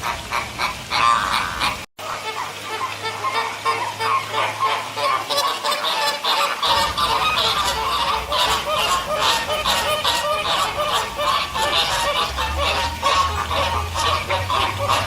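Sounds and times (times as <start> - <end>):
flamingos honking: 0.0 - 15.0.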